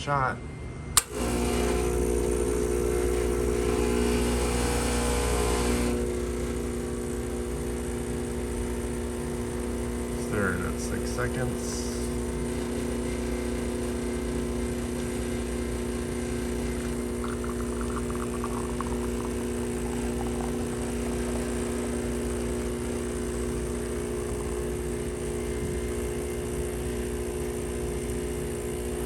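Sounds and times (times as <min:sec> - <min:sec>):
espresso machine pump buzzing: 0:01.0 - 0:29.0
espresso running into cup: 0:01.0 - 0:29.0.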